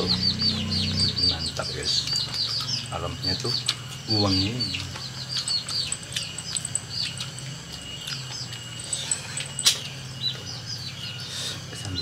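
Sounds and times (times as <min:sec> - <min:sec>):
low steady hum: 0:00.0 - 0:12.0
small birds chirping: 0:00.0 - 0:12.0.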